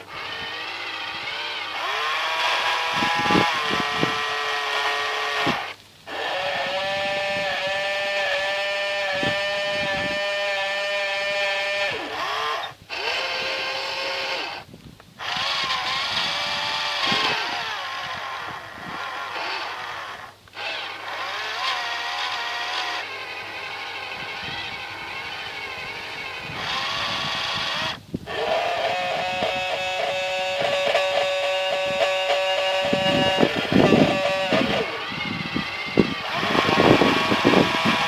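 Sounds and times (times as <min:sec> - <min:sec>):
small electric motors whining: 0:00.0 - 0:38.0.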